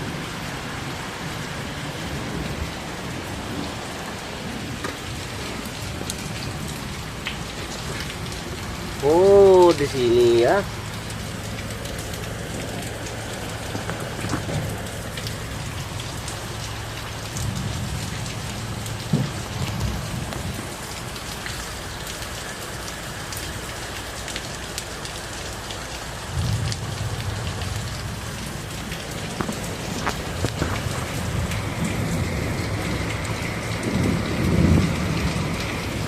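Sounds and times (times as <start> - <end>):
raindrop hits close by: 0.0 - 36.0
steady rain: 0.0 - 36.0.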